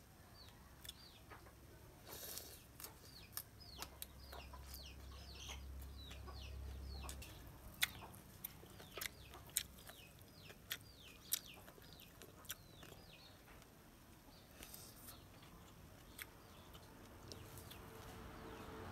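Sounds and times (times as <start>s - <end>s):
chicks peeping: 0.4s - 1.6s, 2.3s - 18.9s.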